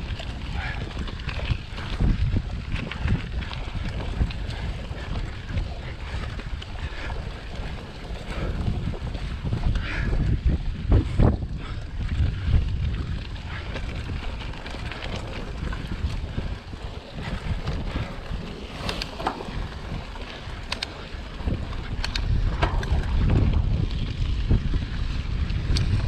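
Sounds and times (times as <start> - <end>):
bike clicks and rattles: 0.0 - 26.0
wind buffeting microphone: 0.0 - 26.0.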